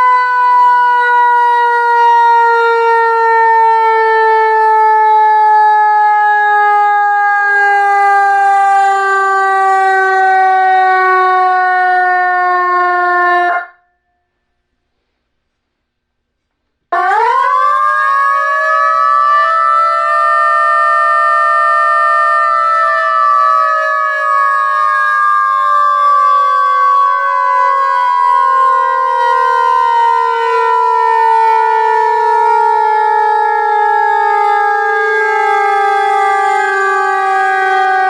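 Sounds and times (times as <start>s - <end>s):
electronic siren wailing: 0.0s - 13.9s, 17.0s - 38.0s.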